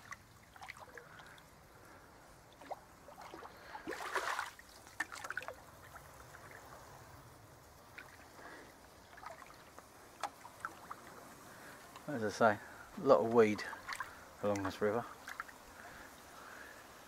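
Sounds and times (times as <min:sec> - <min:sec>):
water dripping and trickling: 0:00.0 - 0:01.7, 0:02.3 - 0:12.4, 0:13.0 - 0:16.2.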